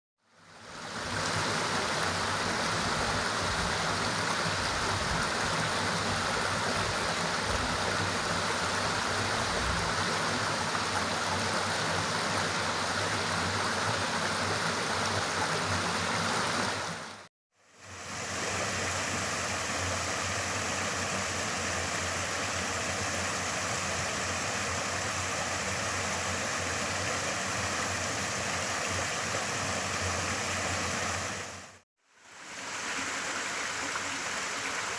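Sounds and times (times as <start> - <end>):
rushing water: 0.4 - 34.9.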